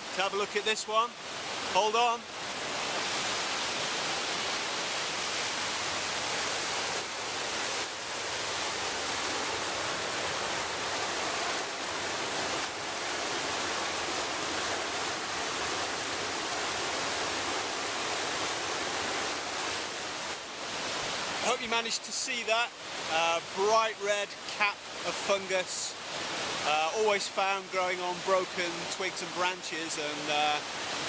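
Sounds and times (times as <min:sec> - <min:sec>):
stream over rocks: 0:00.0 - 0:31.0.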